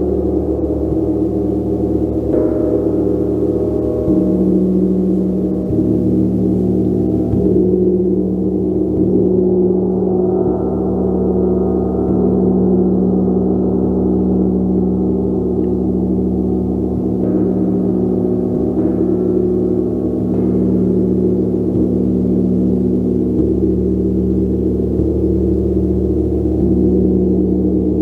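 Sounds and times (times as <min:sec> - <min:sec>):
soft gong strokes: 0:00.0 - 0:28.0.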